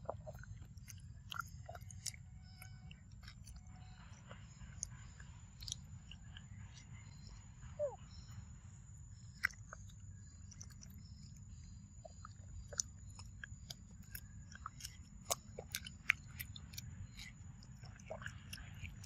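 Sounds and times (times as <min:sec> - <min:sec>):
monkey chewing fruit: 0:00.0 - 0:08.4, 0:09.3 - 0:19.0.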